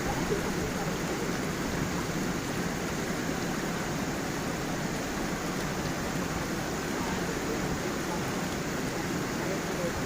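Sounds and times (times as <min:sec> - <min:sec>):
stream flowing over stones: 0:00.0 - 0:10.0.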